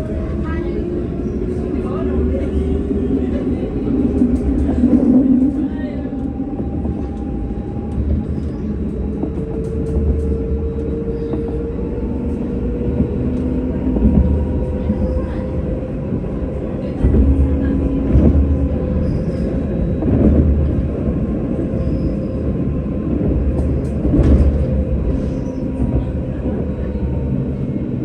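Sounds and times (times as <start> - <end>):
tram rumbling on track: 0.0 - 28.0.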